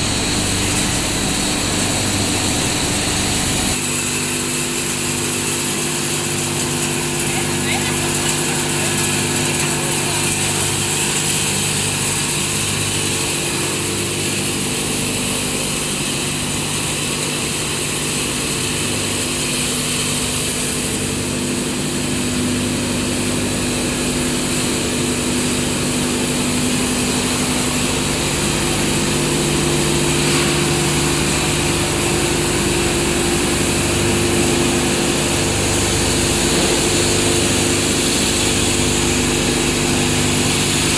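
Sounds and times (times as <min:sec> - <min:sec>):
milling machine humming: 0:00.0 - 0:20.5, 0:24.4 - 0:40.9.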